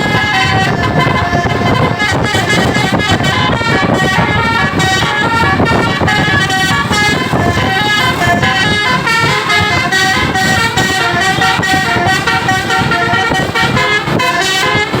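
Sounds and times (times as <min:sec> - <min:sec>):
musical bus air horn: 0:00.0 - 0:15.0
steady low rumble: 0:00.0 - 0:15.0.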